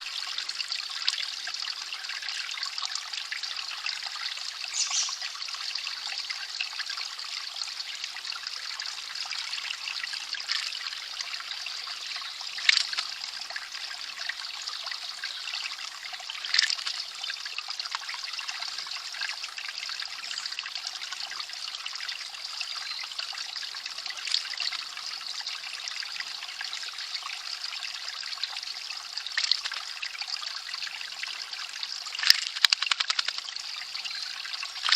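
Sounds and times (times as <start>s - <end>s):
spring water trickling: 0.0s - 34.9s.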